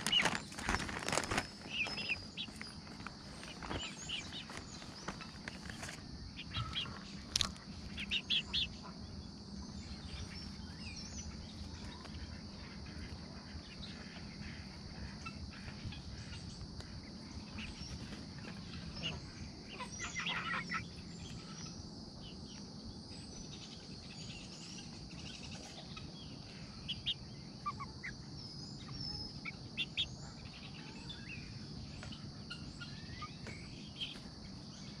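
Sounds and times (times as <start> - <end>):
chicks peeping and chirping: 0.0 - 22.8, 24.8 - 34.7
insects humming: 0.0 - 35.0.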